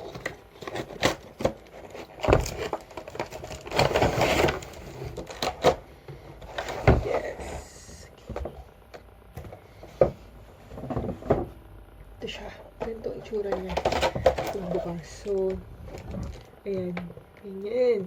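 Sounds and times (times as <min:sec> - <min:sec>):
cardboard rustling and scraping: 0:00.0 - 0:08.7, 0:09.4 - 0:11.6, 0:12.9 - 0:16.9.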